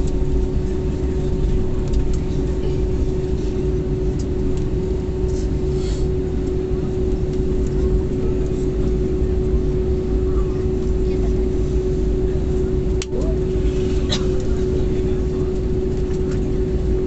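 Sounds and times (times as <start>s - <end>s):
airplane cabin rumble and hum: 0.0s - 17.0s.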